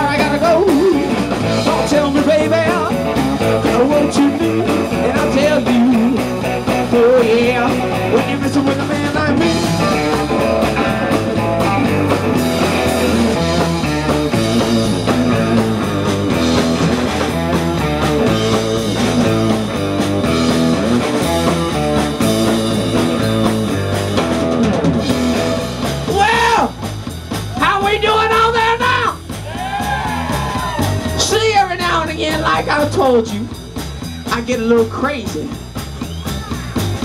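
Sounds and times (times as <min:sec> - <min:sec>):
bass guitar: 0:00.0 - 0:37.0
drum kit steady beat: 0:00.0 - 0:37.0
electric guitar: 0:00.0 - 0:37.0.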